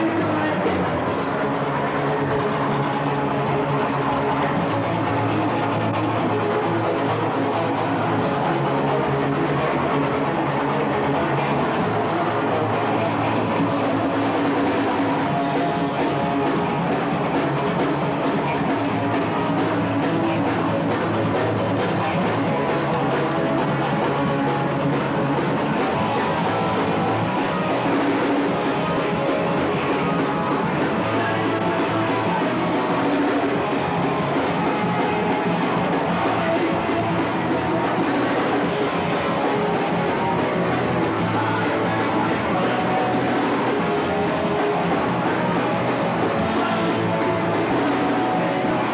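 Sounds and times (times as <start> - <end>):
punk rock band playing live: 0.0 - 48.9.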